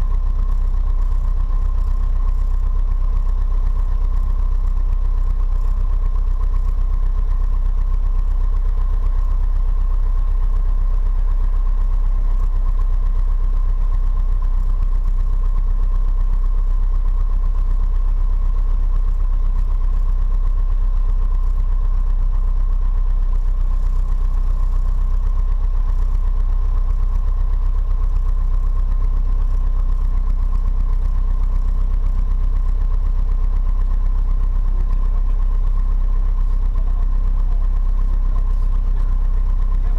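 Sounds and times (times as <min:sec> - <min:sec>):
propeller plane engine idling: 0:00.0 - 0:39.9.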